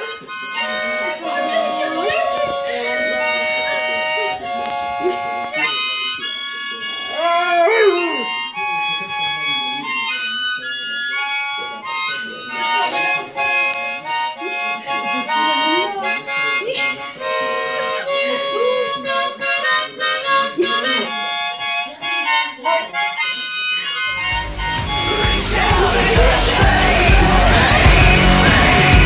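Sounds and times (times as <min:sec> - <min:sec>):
harmonica chords: 0:00.0 - 0:29.0.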